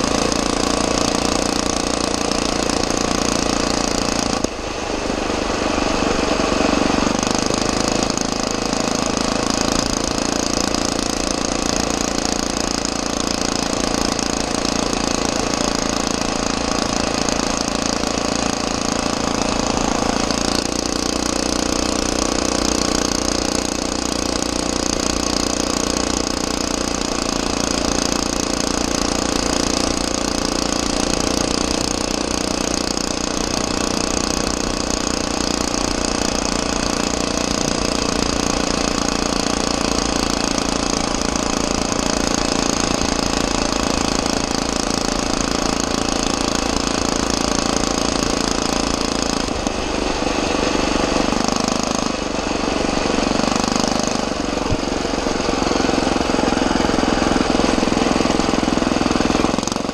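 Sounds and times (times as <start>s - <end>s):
motorized bicycle engine running: 0.0s - 59.9s.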